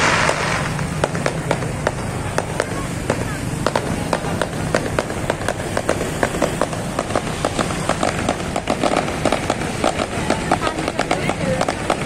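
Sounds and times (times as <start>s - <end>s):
fireworks crackling and popping: 0.0s - 12.0s
motorcycle traffic hum: 0.0s - 12.0s.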